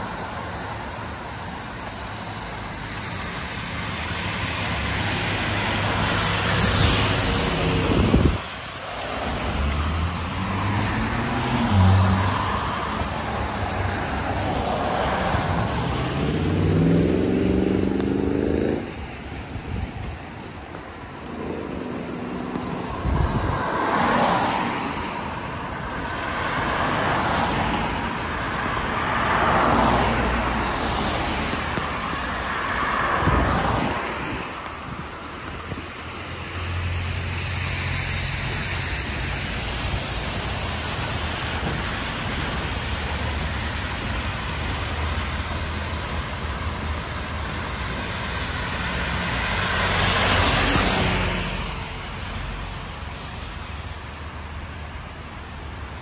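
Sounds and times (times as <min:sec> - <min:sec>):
bus passing: 0:00.0 - 0:56.0
cars passing on wet road: 0:00.0 - 0:56.0.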